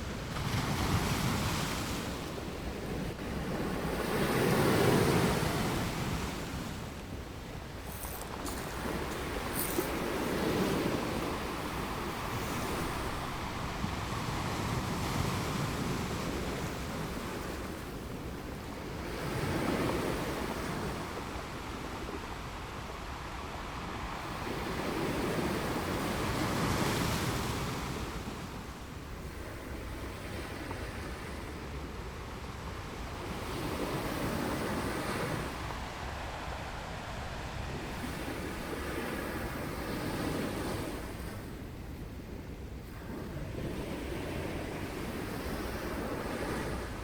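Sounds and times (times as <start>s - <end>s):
ocean waves breaking on beach: 0.0s - 47.0s
wind on microphone: 0.0s - 47.0s.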